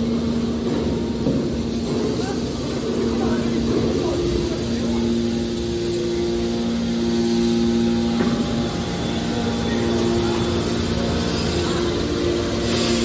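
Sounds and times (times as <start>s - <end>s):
hydraulic machine hum with whine: 0.0s - 13.0s.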